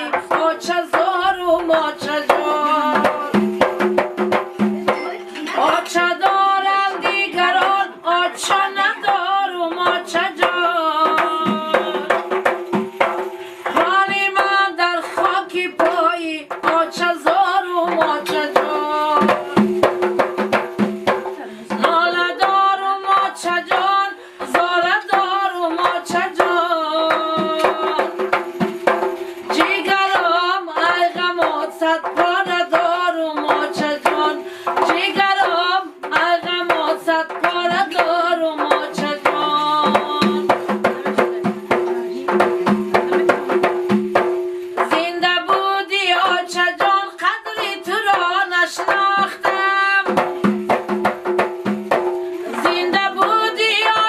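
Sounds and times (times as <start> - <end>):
woman singing folk song: 0.0 - 3.8, 5.4 - 12.3, 13.6 - 19.9, 21.3 - 28.3, 29.4 - 43.5, 44.8 - 50.6, 52.4 - 54.0
frame drums beating fast rhythm: 0.0 - 54.0.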